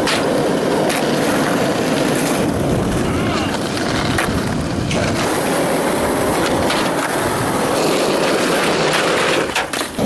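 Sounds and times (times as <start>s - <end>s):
skateboard wheels rolling: 0.0s - 10.0s.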